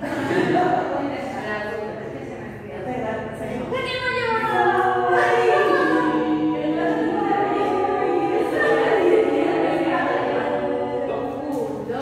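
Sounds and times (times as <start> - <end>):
group of voices singing: 0.0 - 1.6, 3.2 - 12.0.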